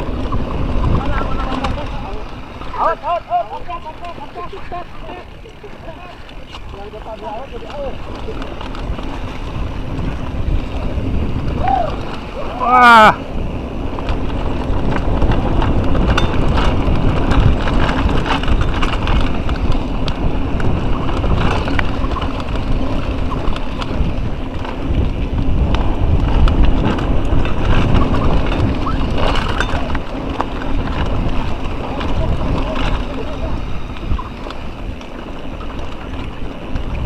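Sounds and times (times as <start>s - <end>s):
bike rattling and knocking: 0.0s - 37.0s
tyres on dirt trail: 0.0s - 37.0s
wind on microphone: 0.0s - 37.0s.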